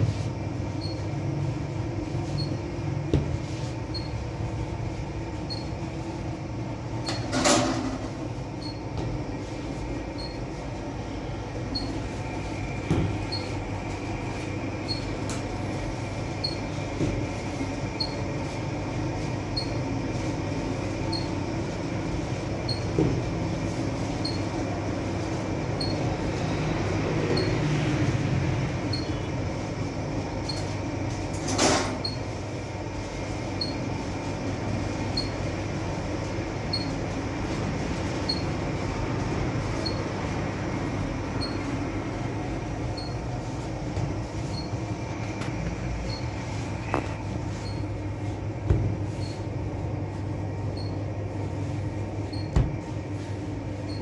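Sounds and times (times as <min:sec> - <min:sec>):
machine hum and rumble: 0:00.0 - 0:54.0.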